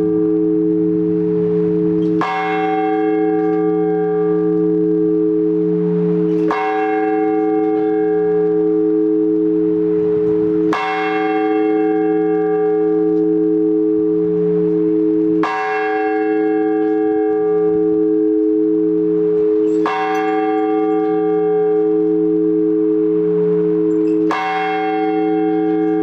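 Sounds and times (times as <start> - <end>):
large church bell ringing: 0.0 - 26.0.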